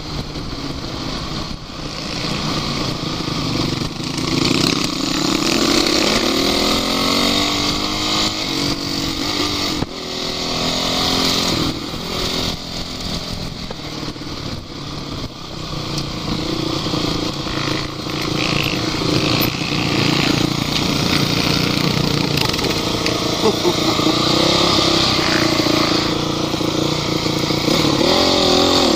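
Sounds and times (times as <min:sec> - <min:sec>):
off-road vehicle engine revving: 0:01.3 - 0:28.9.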